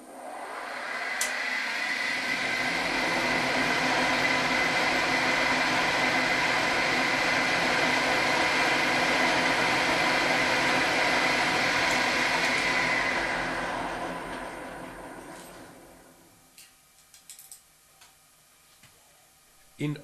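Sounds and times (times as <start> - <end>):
milling machine whining: 0.0 - 16.4.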